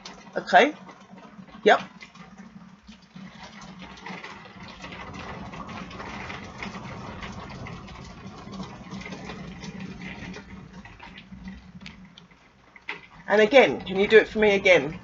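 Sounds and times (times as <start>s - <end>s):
rolling thunder: 0.0s - 12.3s, 13.0s - 15.0s.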